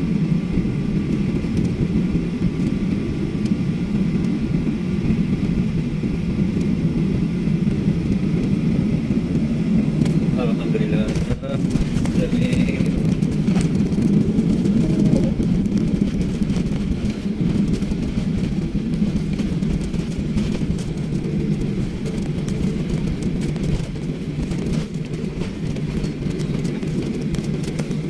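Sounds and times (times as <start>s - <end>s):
jet engines rumbling: 0.0s - 28.0s
tyres on runway: 0.0s - 28.0s.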